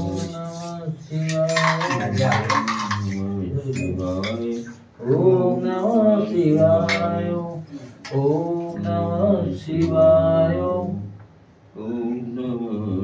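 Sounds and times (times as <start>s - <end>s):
man chanting: 0.0s - 11.2s.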